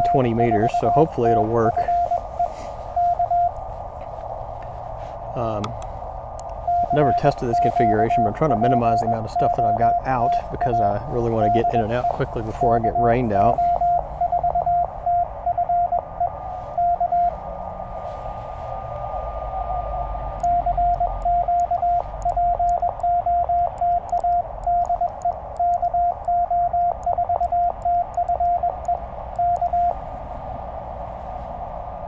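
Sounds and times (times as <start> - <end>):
morse code tone: 0.0 - 30.1
receiver band hiss: 0.0 - 32.0.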